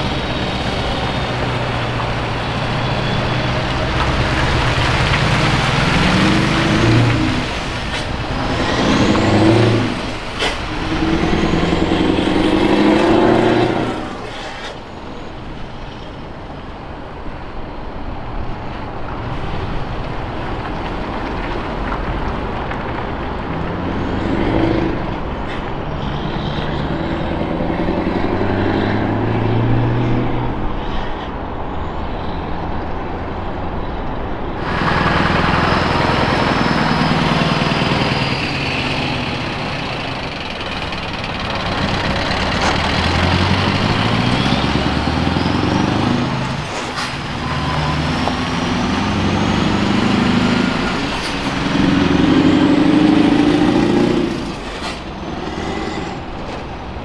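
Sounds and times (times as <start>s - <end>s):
truck engines accelerating: 0.0s - 57.0s.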